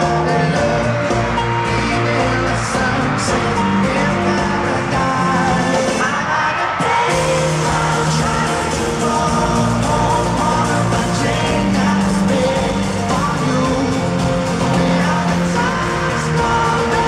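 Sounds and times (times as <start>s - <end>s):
live pop-rock band: 0.0s - 17.0s
man singing: 0.0s - 17.0s.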